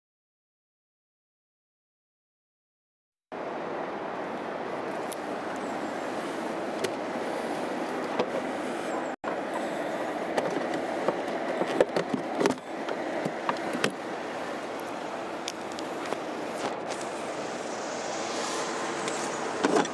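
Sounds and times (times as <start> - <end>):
outdoor background noise: 3.3 - 19.9.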